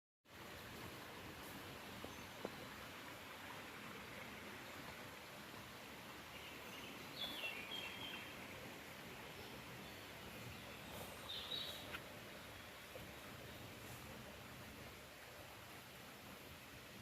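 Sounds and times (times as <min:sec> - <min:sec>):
background hiss: 0:00.3 - 0:17.0.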